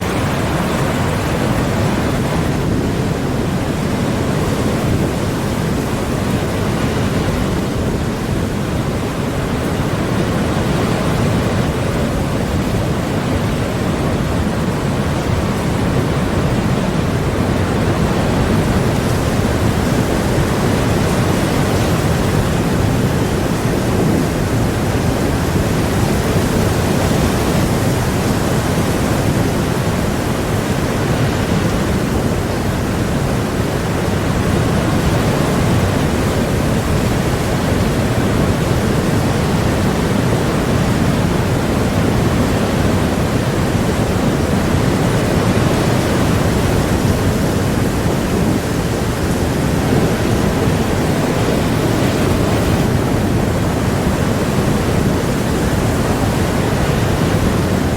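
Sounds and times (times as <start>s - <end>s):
surf rushing: 0.0s - 57.9s
wind: 0.0s - 57.9s.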